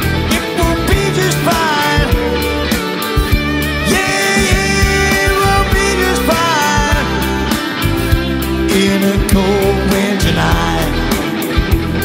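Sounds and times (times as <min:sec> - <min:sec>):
drums beating: 0:00.0 - 0:12.0
person singing lead vocals: 0:00.0 - 0:12.0
rock band playing: 0:00.0 - 0:12.0.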